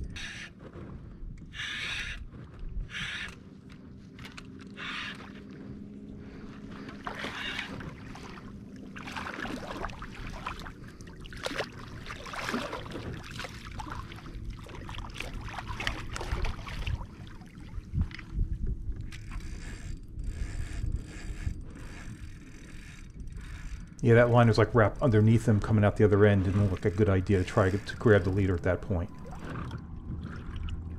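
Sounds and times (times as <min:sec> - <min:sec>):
wind on microphone: 0:00.0 - 0:04.2, 0:05.4 - 0:30.9
water splashing and sloshing: 0:00.0 - 0:30.9.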